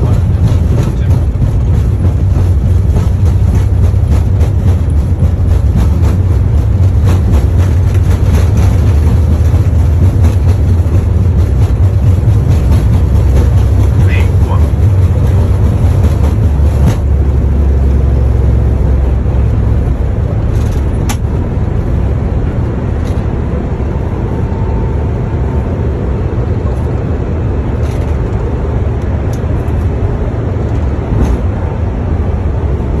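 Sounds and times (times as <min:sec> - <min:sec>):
engine and airflow rumble: 0:00.0 - 0:33.0.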